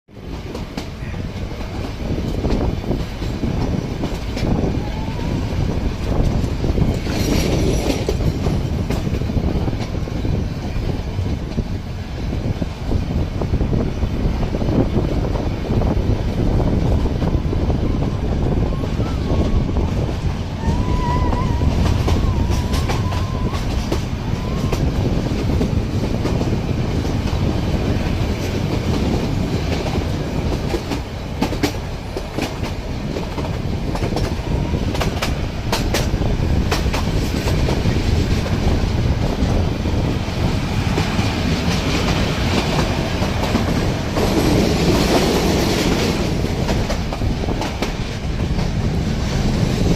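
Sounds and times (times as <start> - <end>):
train rumbling: 0.0 - 49.9
clickety-clack of wheels on rails: 0.1 - 49.9.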